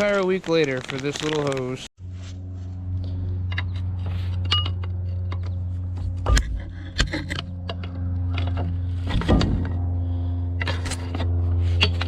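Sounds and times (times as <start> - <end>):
steady low hum: 2.0 - 12.0.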